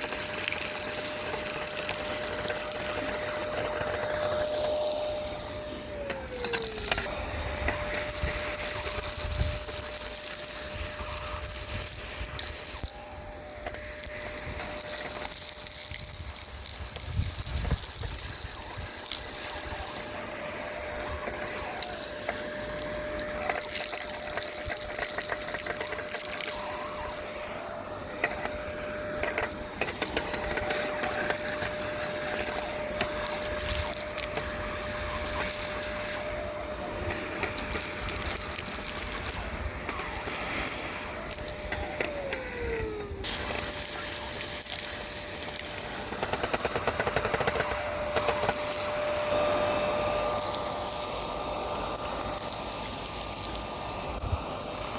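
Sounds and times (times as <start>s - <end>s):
debris rattling up vacuum hose: 0.0s - 54.9s
vacuum cleaner motor hum: 0.0s - 54.9s.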